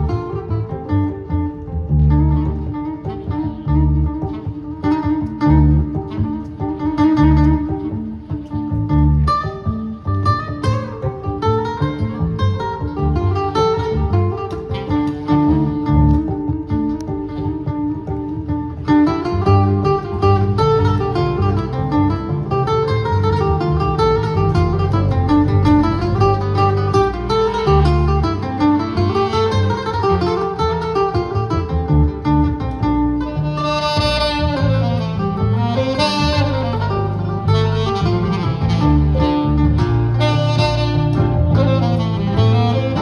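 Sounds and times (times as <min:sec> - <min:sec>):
acoustic guitar: 0:00.0 - 0:43.0
upright double bass walking bass: 0:00.0 - 0:43.0
saxophone: 0:02.4 - 0:43.0.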